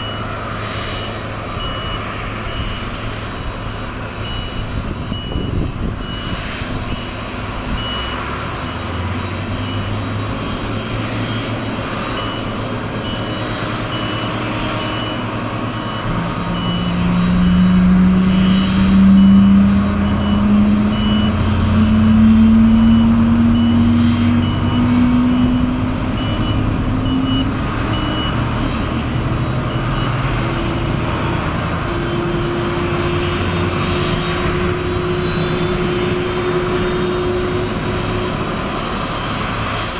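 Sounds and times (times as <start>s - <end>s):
jet engines running: 0.0s - 39.9s
reversing beeper: 0.0s - 39.9s.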